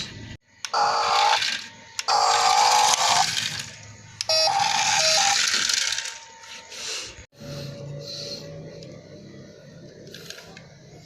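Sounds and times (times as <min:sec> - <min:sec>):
tinny electronic tone over hiss: 0:00.0 - 0:11.0.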